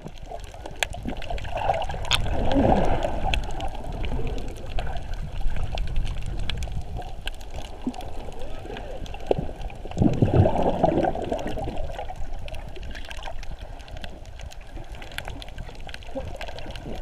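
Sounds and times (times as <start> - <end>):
faint clicks: 0.0 - 10.2, 11.0 - 17.0
muffled water rushing and gurgling: 0.0 - 17.0.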